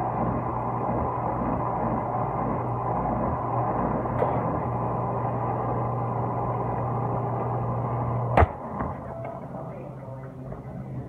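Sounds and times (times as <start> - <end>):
dishwasher running: 0.0 - 11.0.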